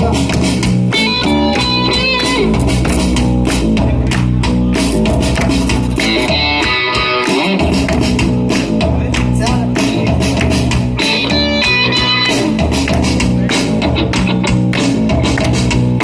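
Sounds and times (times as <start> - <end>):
rock band playing instrumental: 0.0 - 16.0.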